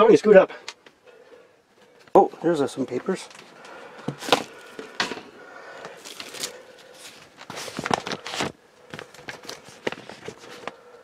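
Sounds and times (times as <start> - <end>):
paper and packaging rustling: 2.0 - 10.9.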